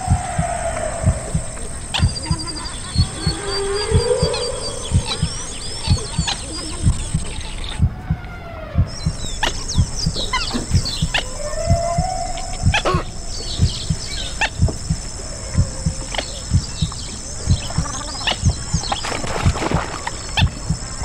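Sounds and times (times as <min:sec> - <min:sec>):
gliding animal moan: 0:00.0 - 0:19.0
animal chirps and cries: 0:00.0 - 0:20.6
heartbeat thumping: 0:00.0 - 0:21.0.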